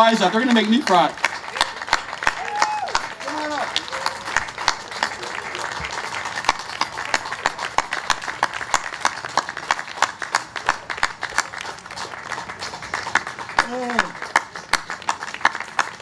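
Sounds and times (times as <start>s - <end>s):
crowd applauding: 0.0s - 16.0s
loud hand claps close by: 0.5s - 16.0s.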